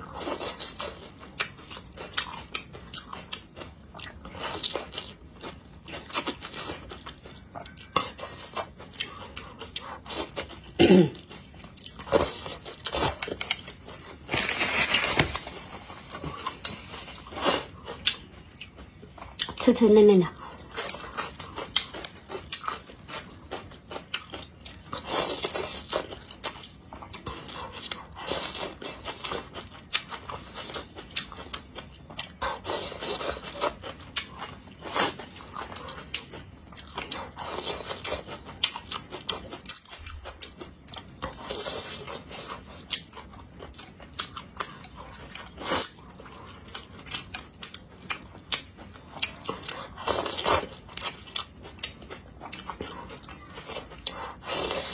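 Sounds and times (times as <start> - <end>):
chewing noodles: 0.0 - 54.9.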